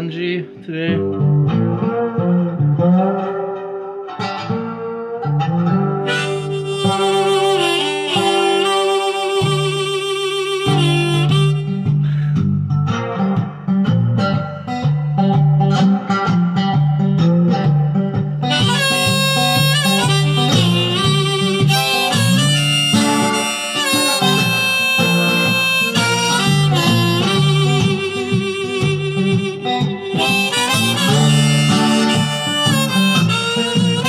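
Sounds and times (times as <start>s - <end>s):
guitar strumming: 0.0s - 34.0s
harmonica chords: 2.9s - 13.6s, 14.2s - 34.0s.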